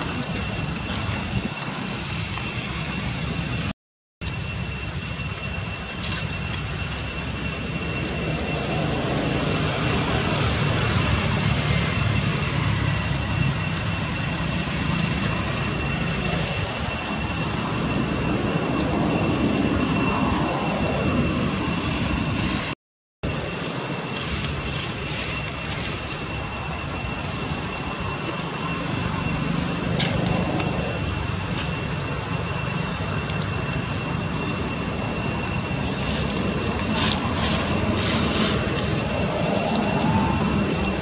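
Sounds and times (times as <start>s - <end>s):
rushing outdoor background noise: 0.0s - 41.0s.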